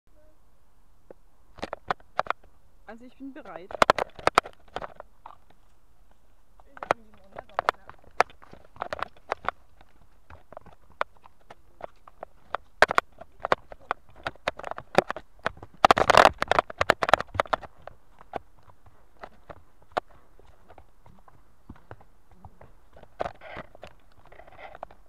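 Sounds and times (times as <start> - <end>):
hooves on forest trail: 1.1 - 25.0.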